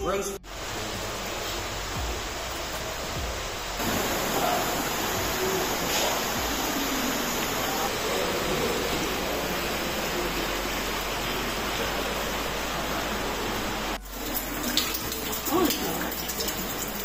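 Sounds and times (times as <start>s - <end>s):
falling water rushing: 0.4s - 17.0s.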